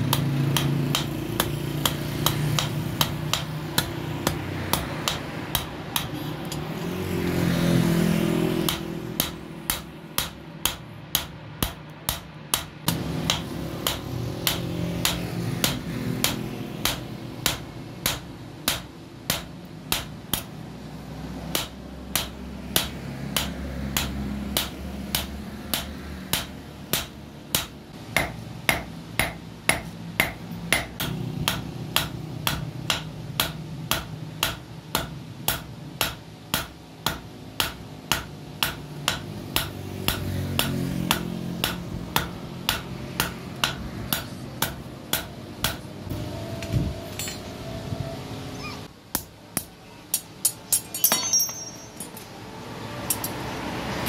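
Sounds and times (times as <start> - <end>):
hammer striking metal on anvil: 0.0 - 6.8, 8.4 - 20.6, 21.4 - 47.6, 49.1 - 52.3.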